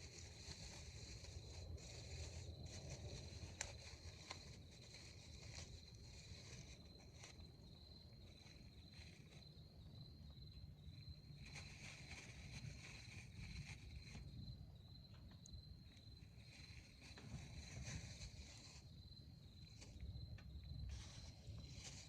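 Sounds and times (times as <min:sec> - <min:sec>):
insect trilling: 0:00.0 - 0:22.0.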